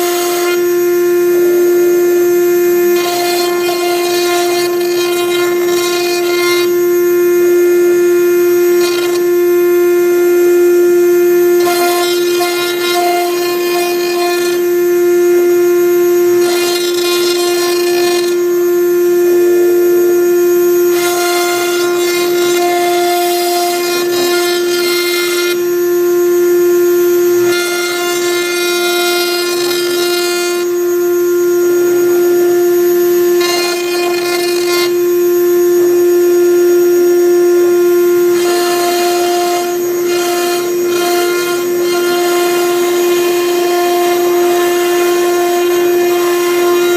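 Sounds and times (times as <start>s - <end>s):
bit engraving wood: 0.0s - 46.9s
cnc router spindle whine: 0.0s - 46.9s.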